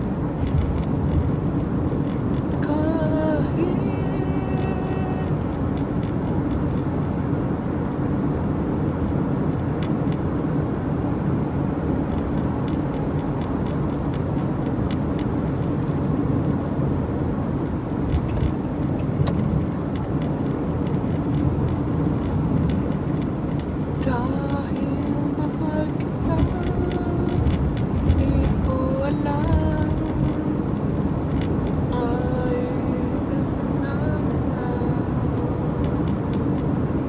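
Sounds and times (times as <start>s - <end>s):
car road and engine noise: 0.0s - 37.0s.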